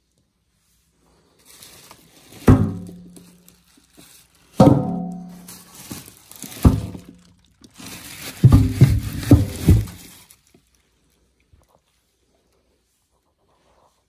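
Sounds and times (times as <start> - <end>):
scraping and rustling: 0.5 - 14.0.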